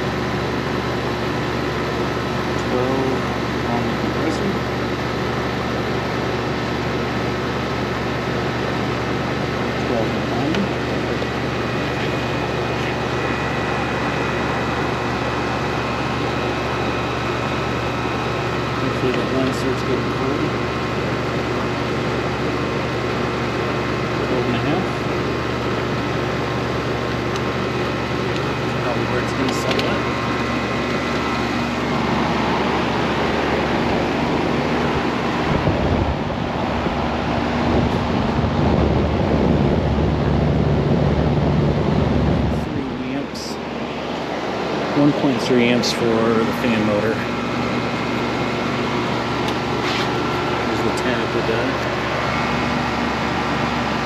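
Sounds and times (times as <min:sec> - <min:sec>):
compressor hum: 0:00.0 - 0:54.0
condenser fan whoosh: 0:00.0 - 0:54.0.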